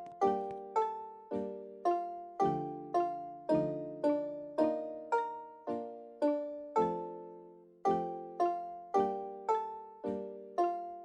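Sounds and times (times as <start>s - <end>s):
keyboard chords ringing: 0.0s - 11.0s.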